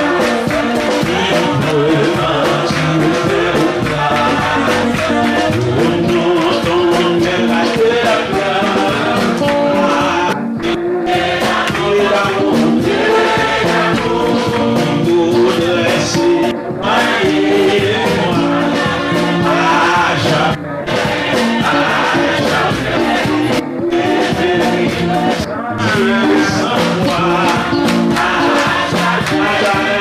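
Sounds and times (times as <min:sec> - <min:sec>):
congregation singing worship song: 0:00.0 - 0:30.0
steady beat: 0:00.0 - 0:30.0.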